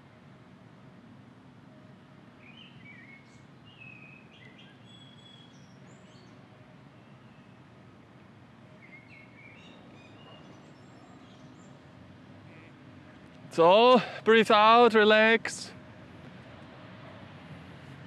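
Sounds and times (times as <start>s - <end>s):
faint outdoor hum: 0.0s - 18.0s.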